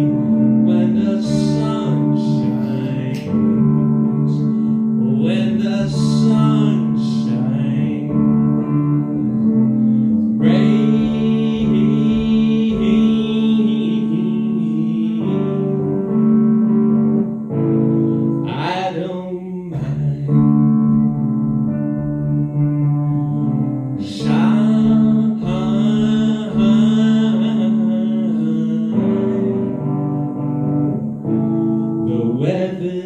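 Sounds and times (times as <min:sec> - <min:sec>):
pedal steel guitar melody: 0:00.0 - 0:33.0.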